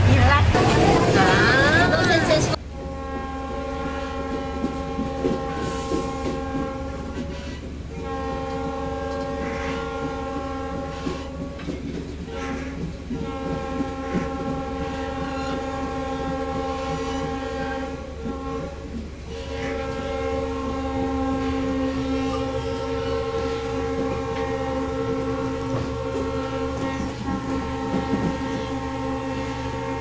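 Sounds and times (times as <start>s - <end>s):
train rumble: 0.0s - 30.0s
wheels clacking on rail joints: 0.0s - 30.0s
locomotive air horn chord: 2.4s - 30.0s.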